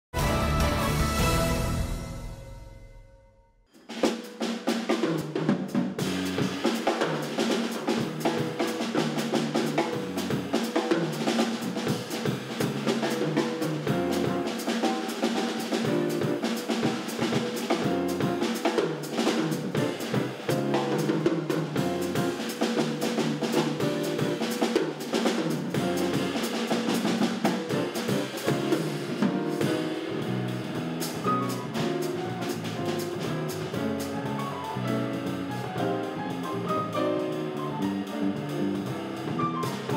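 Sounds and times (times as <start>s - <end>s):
jazz piano trio playing: 0.1s - 2.5s, 3.9s - 39.9s
drum kit busy rhythm: 0.1s - 2.8s, 3.7s - 39.9s.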